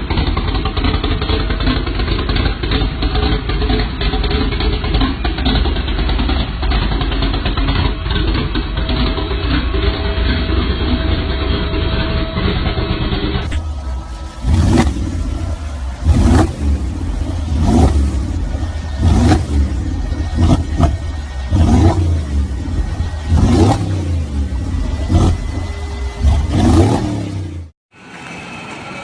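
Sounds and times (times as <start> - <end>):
engine revving: 0.0 - 27.8.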